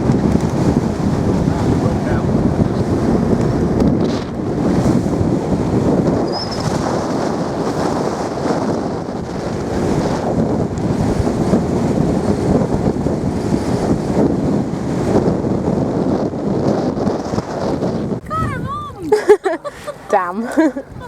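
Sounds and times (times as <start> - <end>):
water rushing against hull: 0.0 - 21.0
wind buffeting microphone: 0.0 - 21.0.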